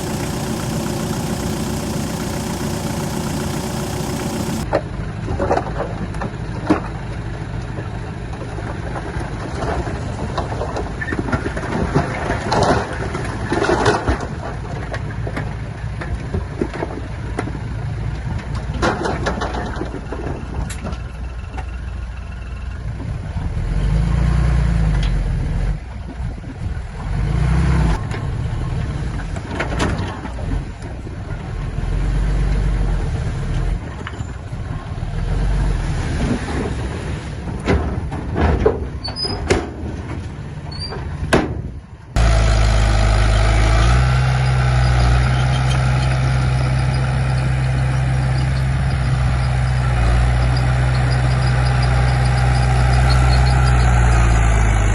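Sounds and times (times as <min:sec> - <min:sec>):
diesel engines of machines working: 0:00.0 - 0:54.9.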